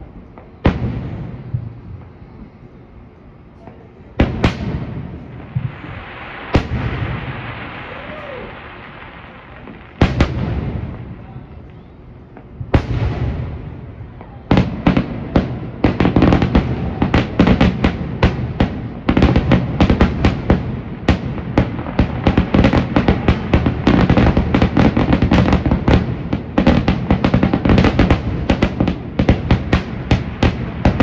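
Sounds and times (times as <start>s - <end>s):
continuous rumble: 0.0s - 31.0s
fireworks bursting: 0.0s - 31.0s.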